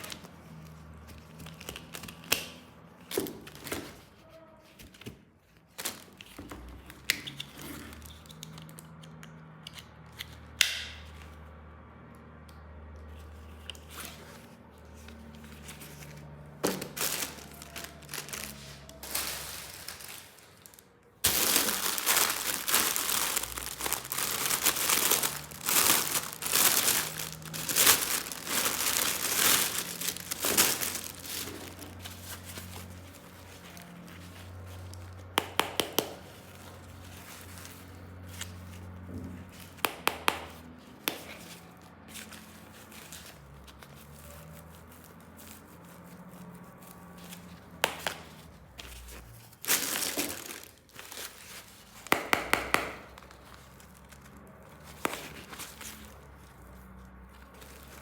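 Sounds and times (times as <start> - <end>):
packaging crinkling and tearing: 0.0 - 4.0, 5.0 - 9.2, 13.7 - 58.0.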